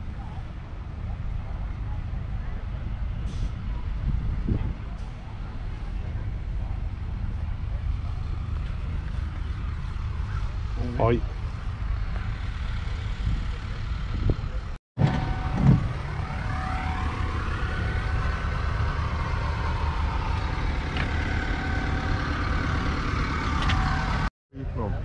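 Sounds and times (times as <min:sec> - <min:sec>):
diesel truck engine idling: 0:00.0 - 0:24.9
high engine whine: 0:00.0 - 0:25.0.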